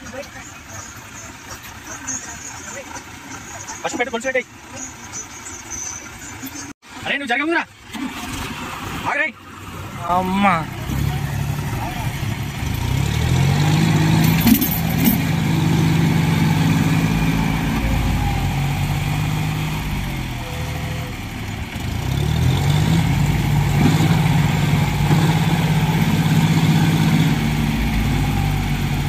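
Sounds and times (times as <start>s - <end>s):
tractor diesel engines under load: 0.0s - 29.0s.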